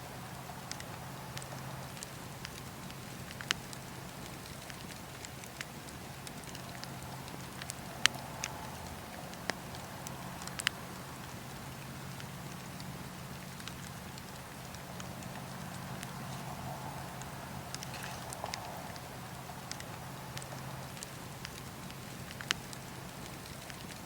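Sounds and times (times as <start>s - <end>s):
burning wood popping and snapping: 0.7s - 24.0s.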